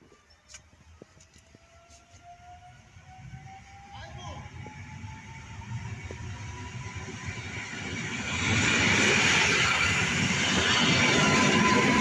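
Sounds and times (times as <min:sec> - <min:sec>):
electric train passing at speed: 0:01.4 - 0:12.0.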